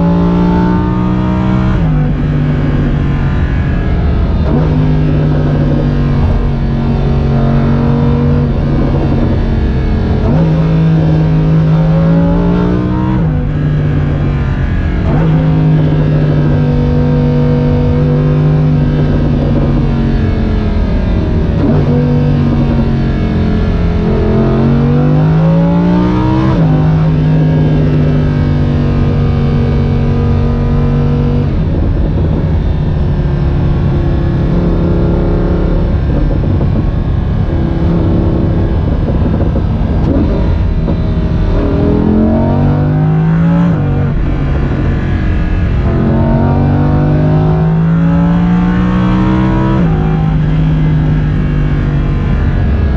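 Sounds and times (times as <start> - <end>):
car engine revving while driving: 0.0 - 52.9.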